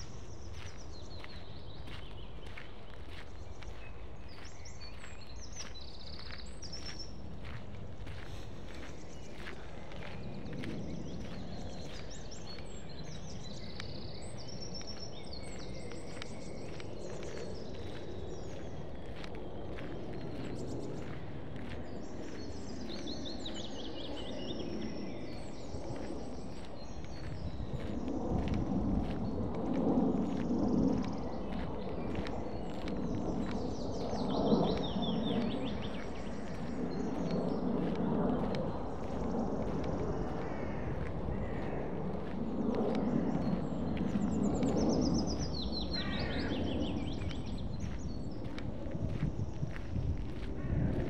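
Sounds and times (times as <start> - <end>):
footsteps on dirt path: 0.0 - 51.0
steady low rumble: 0.0 - 51.0.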